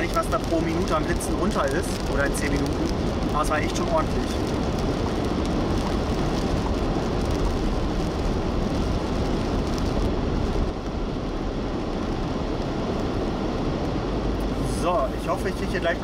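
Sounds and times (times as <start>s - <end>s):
tyres on wet asphalt: 0.0s - 16.0s.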